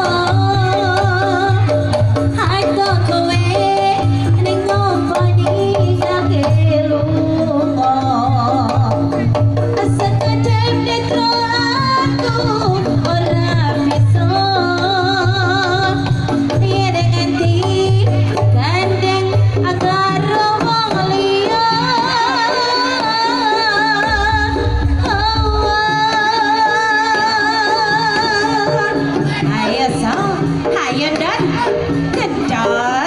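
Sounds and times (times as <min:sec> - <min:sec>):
gamelan percussion: 0:00.0 - 0:33.0
hand drums: 0:00.0 - 0:33.0
woman singing: 0:00.0 - 0:33.0.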